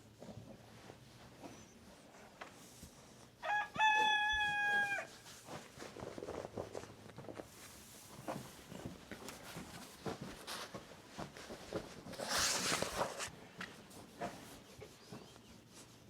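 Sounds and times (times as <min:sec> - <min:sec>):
rustling of things handled: 0:00.0 - 0:16.0.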